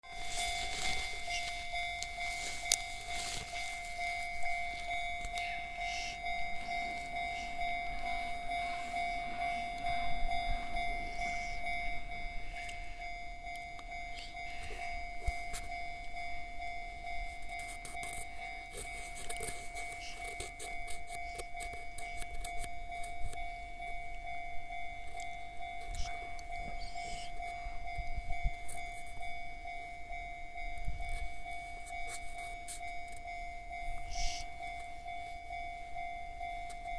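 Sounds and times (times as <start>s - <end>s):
level crossing warning bell: 0.0s - 36.9s.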